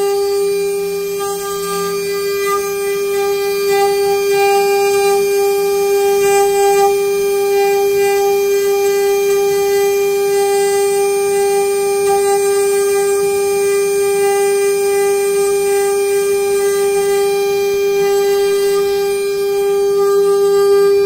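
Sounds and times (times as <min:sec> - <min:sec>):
router spindle whining: 0:00.0 - 0:21.0.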